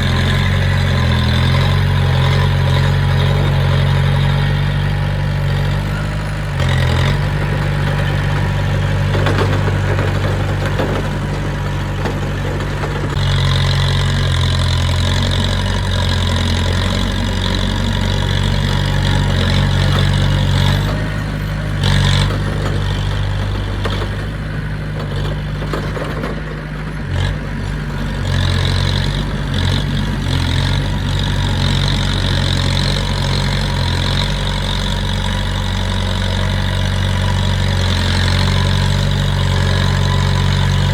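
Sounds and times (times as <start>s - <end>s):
diesel earthmover engine running: 0.0s - 40.9s.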